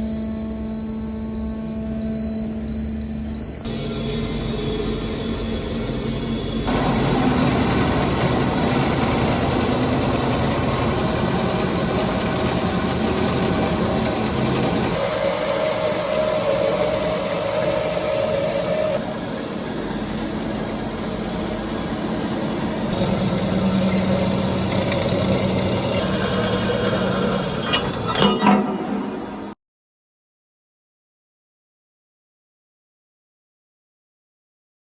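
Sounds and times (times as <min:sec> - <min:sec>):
band saw machine droning: 0:00.0 - 0:28.2.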